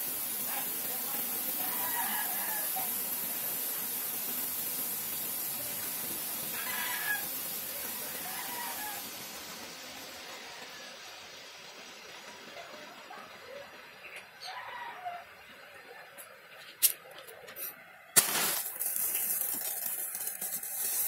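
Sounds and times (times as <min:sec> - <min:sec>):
smoke grenade hissing: 0:00.0 - 0:14.5, 0:17.6 - 0:21.0.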